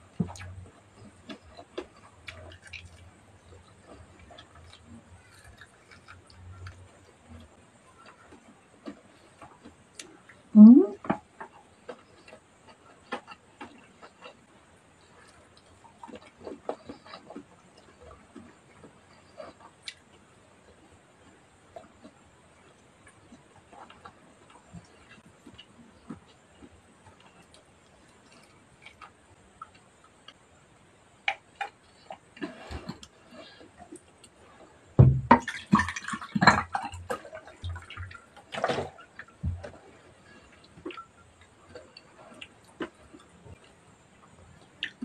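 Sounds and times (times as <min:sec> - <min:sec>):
chewing and lip smacks: 0:00.2 - 0:30.4, 0:36.4 - 0:45.0.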